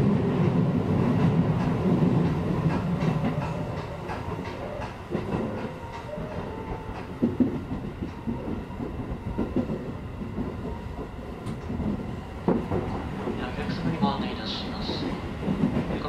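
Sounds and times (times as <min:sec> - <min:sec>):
electric train rumble: 0:00.0 - 0:16.0
oncoming train passing: 0:00.0 - 0:16.0.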